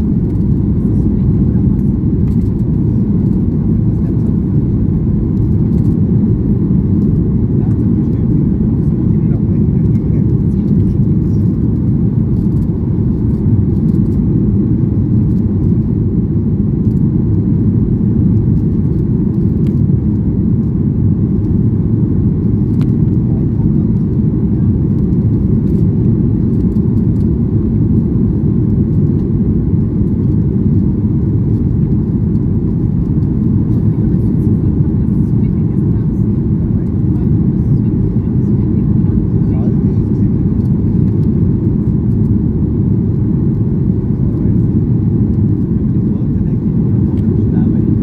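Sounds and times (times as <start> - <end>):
jet engines roaring in cabin: 0.0 - 48.0.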